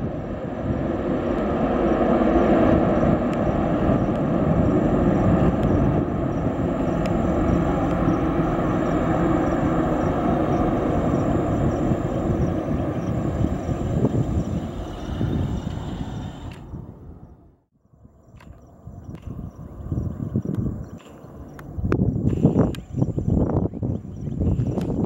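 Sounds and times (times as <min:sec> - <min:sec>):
jet engines roaring: 0:00.0 - 0:23.3.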